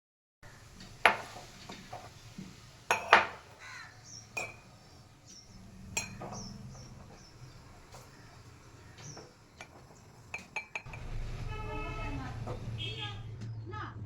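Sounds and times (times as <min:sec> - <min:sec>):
dishes clinking: 0:00.8 - 0:13.2.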